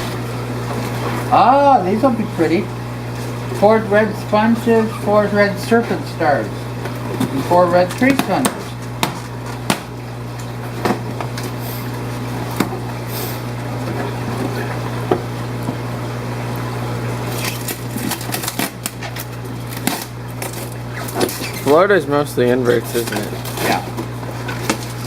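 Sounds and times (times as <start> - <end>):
pumps humming: 0.0 - 25.0.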